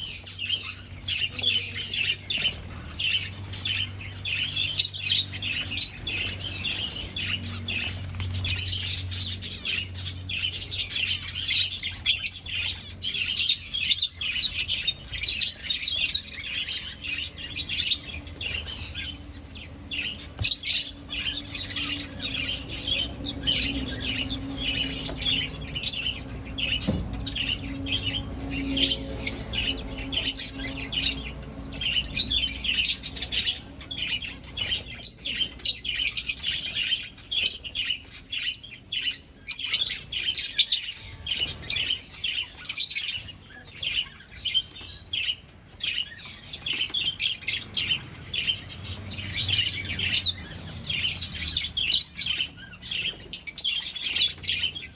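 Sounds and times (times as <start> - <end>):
finches chirping: 0.0 - 54.9.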